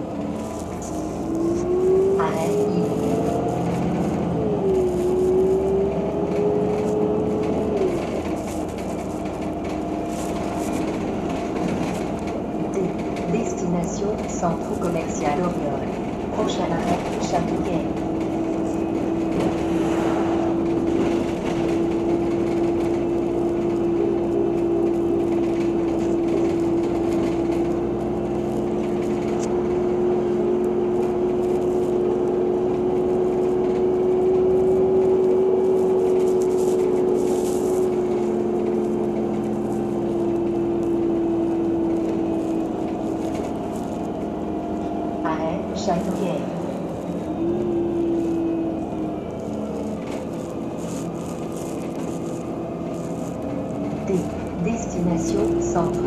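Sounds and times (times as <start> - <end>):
bus drivetrain whine: 0.0 - 56.0
bus engine and road noise: 0.0 - 56.0.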